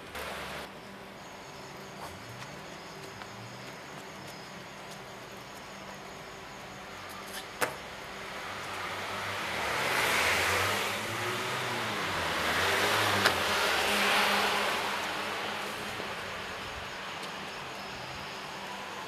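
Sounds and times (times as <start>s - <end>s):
cars passing: 0.0s - 19.0s
steady traffic hum: 0.0s - 19.0s.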